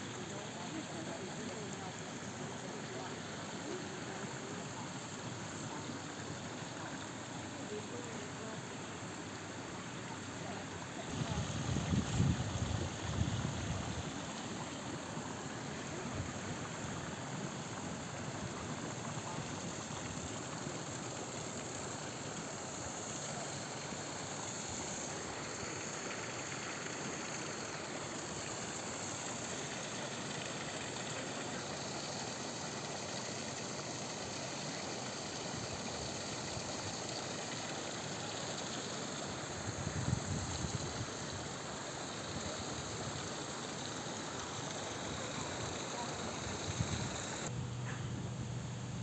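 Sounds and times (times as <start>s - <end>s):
water spout pouring into pool: 0.0s - 47.5s.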